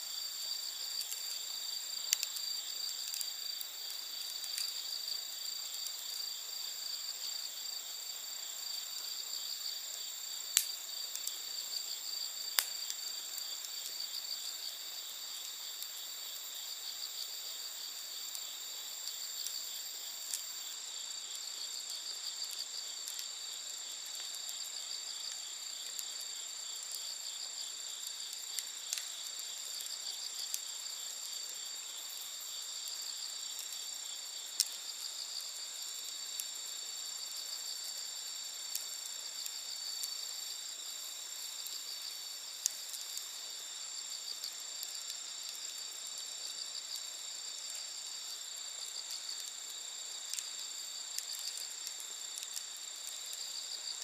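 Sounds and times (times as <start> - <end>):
night insects chirring: 0.0 - 54.0
campfire pops and crackles: 0.1 - 54.0.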